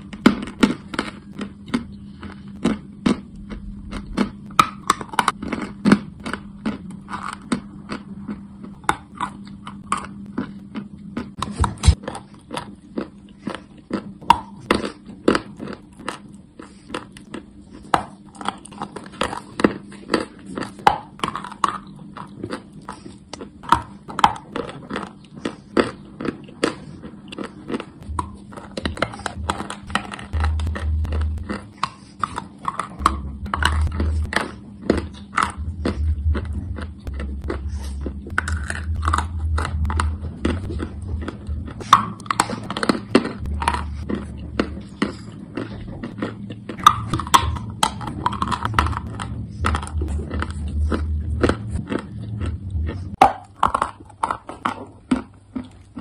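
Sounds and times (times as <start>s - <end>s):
chalk crunching and chewing: 0.0s - 56.0s
low hum: 0.0s - 56.0s.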